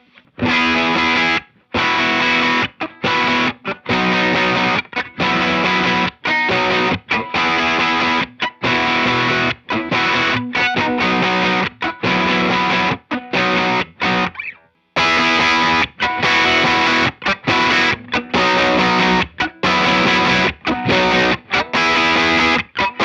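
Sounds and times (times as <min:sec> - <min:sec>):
distorted electric guitar riff: 0:00.0 - 0:23.0.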